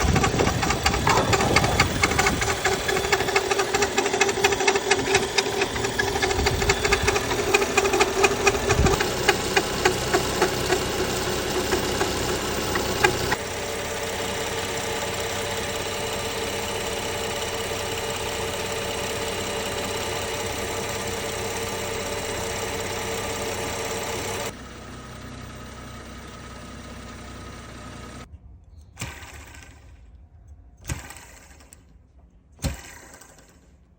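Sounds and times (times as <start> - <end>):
car engine running: 0.0 - 28.3
rapid ticking engine rattle: 0.0 - 28.3.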